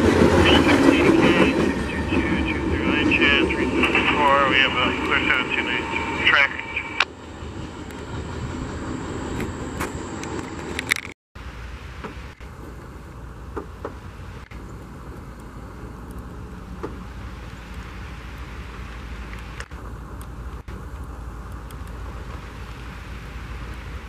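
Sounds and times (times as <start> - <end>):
low rumble of vehicle noise: 0.0 - 24.0.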